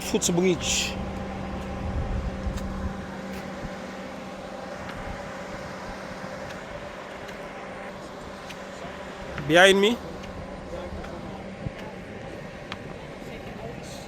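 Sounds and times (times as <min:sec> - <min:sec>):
steady hum: 0:00.0 - 0:14.0
vehicle engines rumbling: 0:00.0 - 0:14.0.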